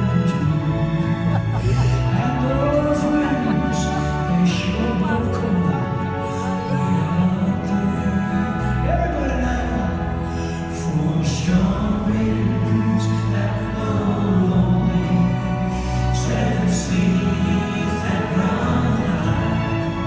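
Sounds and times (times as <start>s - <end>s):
orchestra playing sustained chords: 0.0s - 20.0s.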